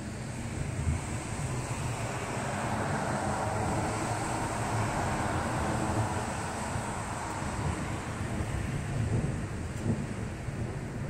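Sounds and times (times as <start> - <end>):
low thunder rumble: 0.0 - 11.0
rushing wind: 0.0 - 11.0.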